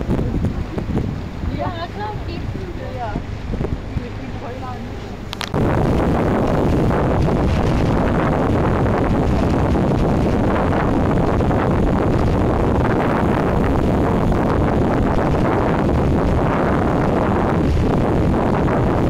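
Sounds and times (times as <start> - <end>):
boat engine rumble: 0.0 - 19.0
wind buffeting microphone: 0.0 - 19.0.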